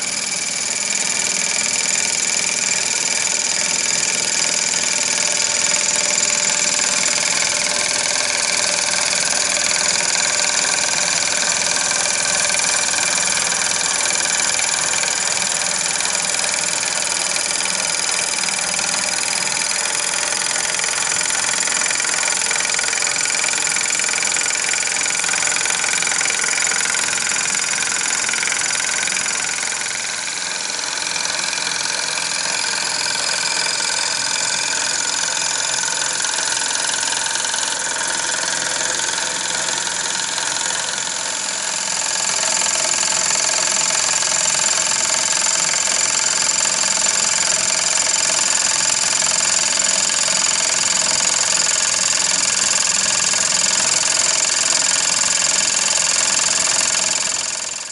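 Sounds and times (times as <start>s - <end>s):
toy steam engine whirring and whining: 0.0s - 57.9s.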